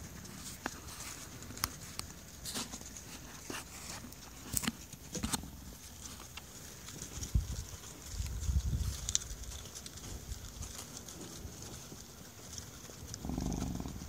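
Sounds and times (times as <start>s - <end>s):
hooves clicking on asphalt: 0.0s - 14.0s.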